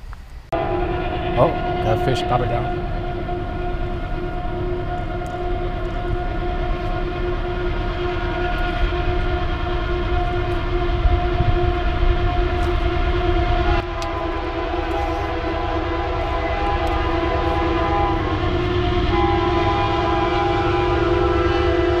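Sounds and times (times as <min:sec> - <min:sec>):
train rumble: 0:00.0 - 0:22.0
distant train horn tone: 0:00.5 - 0:22.0.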